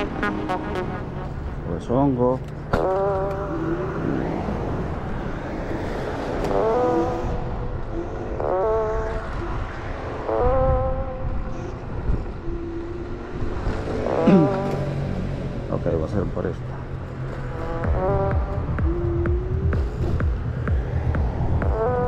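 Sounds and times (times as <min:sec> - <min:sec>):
wind and road rumble: 0:00.0 - 0:22.0.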